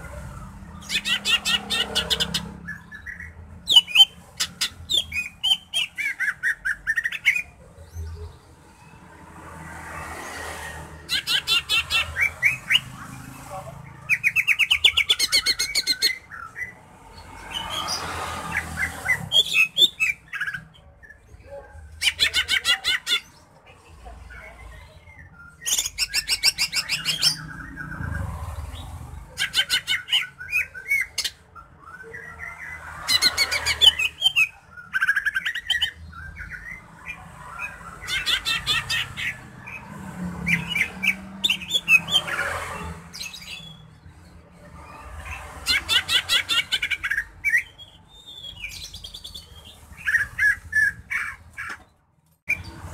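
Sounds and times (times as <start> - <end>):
bird chattering and squeaking: 0.0 - 9.0, 9.9 - 52.9.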